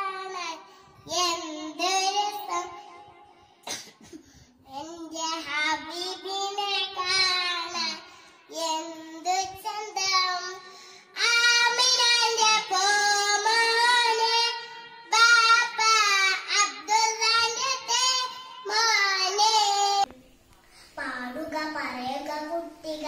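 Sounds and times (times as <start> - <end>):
girl singing into microphone: 0.0 - 23.0.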